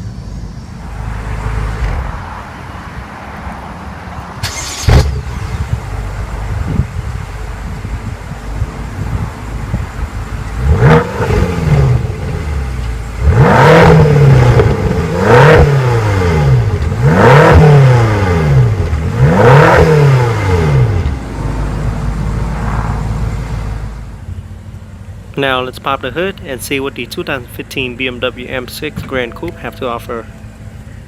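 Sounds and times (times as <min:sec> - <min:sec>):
car engine idling: 0:00.0 - 0:31.0
car engine revving: 0:04.4 - 0:31.0.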